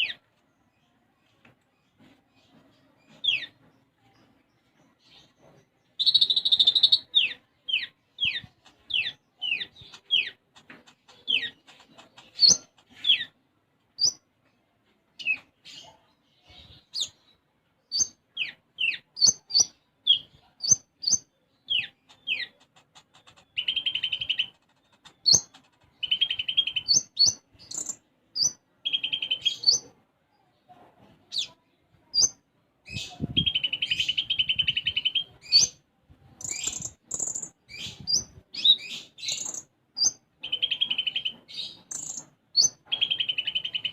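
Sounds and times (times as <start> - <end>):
songbird singing: 0.0 - 14.3, 15.2 - 30.7, 31.3 - 43.9.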